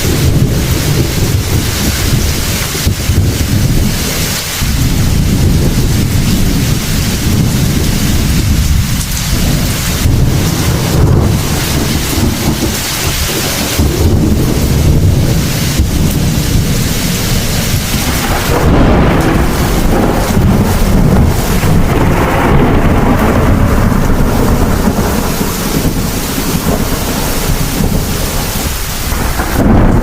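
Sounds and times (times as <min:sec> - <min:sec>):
heavy rain: 0:00.0 - 0:30.0
rumbling thunder: 0:00.0 - 0:30.0.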